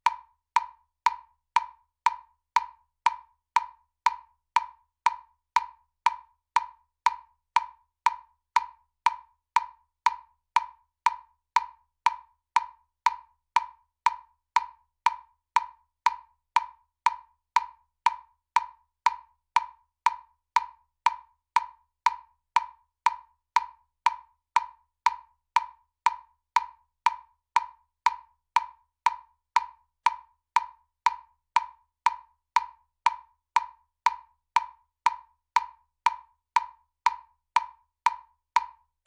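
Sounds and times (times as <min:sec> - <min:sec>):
metronome clicking: 0:00.0 - 0:38.8.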